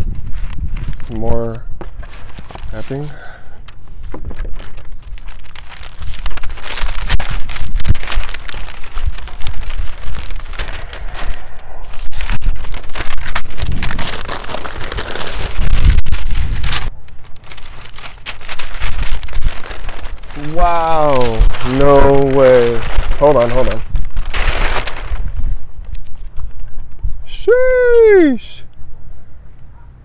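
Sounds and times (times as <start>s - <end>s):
paper and cardboard crumpling: 0.0s - 1.2s, 1.8s - 26.9s.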